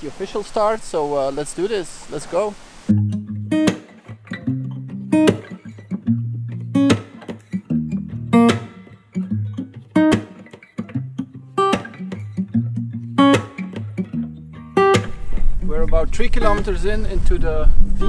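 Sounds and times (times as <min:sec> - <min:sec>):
plucked guitar: 0:02.9 - 0:18.0.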